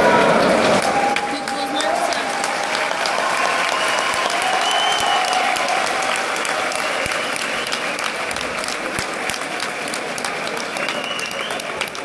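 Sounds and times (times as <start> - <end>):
crowd applauding: 0.0 - 12.0
voices in crowd: 0.0 - 12.0.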